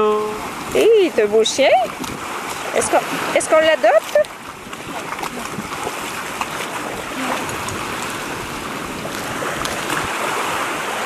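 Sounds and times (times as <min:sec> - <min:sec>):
faint splashes: 0:00.0 - 0:11.0
water lapping at shore: 0:00.0 - 0:11.0.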